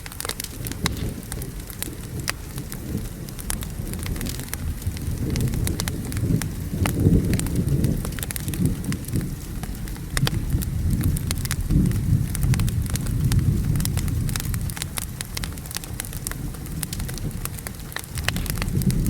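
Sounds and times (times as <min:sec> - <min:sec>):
rain hiss: 0:00.0 - 0:19.0
wood fire crackling: 0:00.0 - 0:19.0
rolling thunder: 0:00.1 - 0:19.0.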